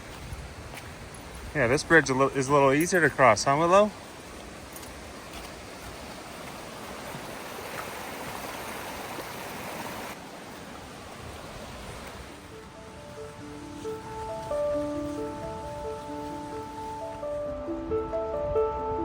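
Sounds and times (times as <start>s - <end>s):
creek water rushing: 0.0s - 17.9s.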